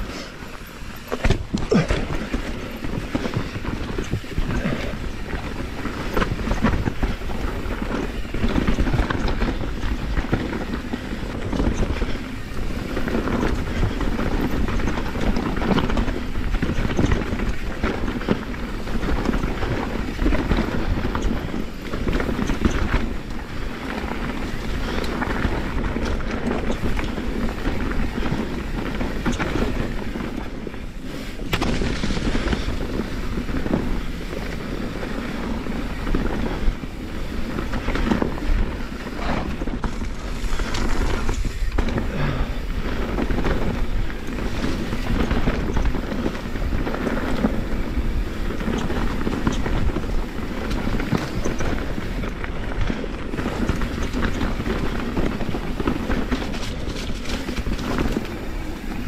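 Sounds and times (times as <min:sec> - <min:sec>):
bike clattering and rattling: 0:00.0 - 0:59.0
bike tyres on dirt and rock: 0:00.0 - 0:59.0.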